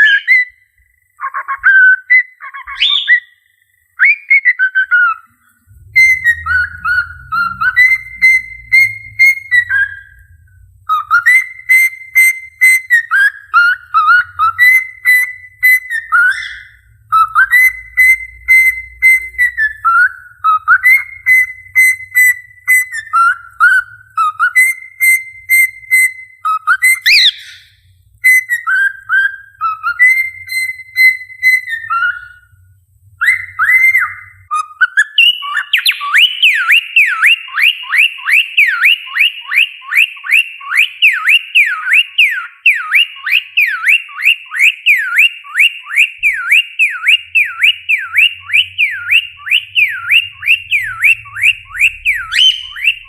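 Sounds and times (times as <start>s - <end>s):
cockatiel whistling: 0.0s - 0.6s, 1.2s - 3.4s, 4.0s - 32.5s, 33.2s - 53.0s.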